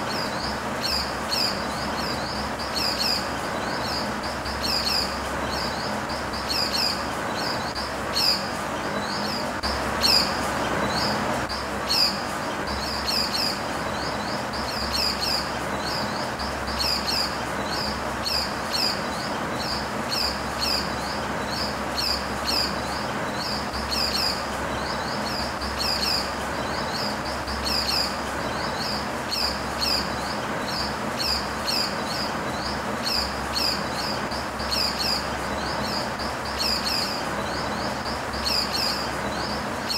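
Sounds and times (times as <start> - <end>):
small birds chirping: 0.0 - 39.9
steady background noise: 0.0 - 39.9.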